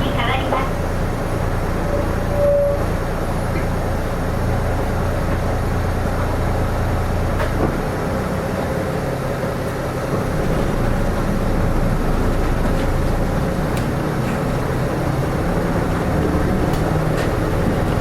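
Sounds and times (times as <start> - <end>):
bus engine drone: 0.0 - 18.0
faint engine whine: 0.0 - 18.0.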